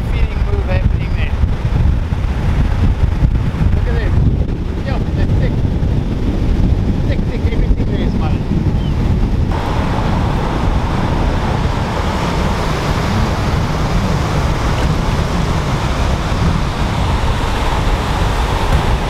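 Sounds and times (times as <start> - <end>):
surf washing: 0.0 - 19.0
wind across microphone: 0.0 - 19.0.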